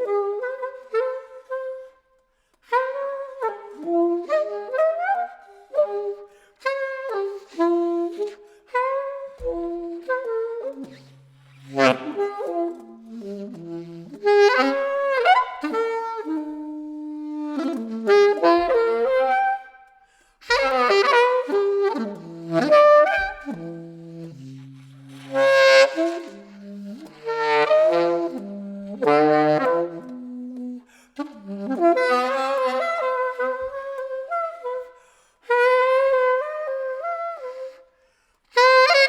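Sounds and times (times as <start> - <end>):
solo saxophone playing: 0.0 - 39.0.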